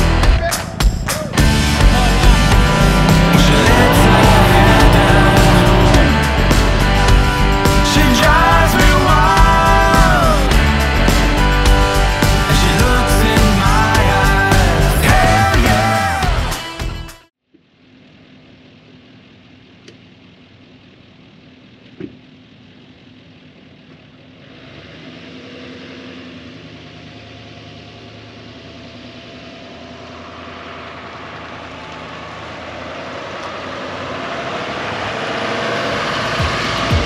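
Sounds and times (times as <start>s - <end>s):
vehicle engine idling: 1.2s - 15.5s, 17.7s - 37.0s.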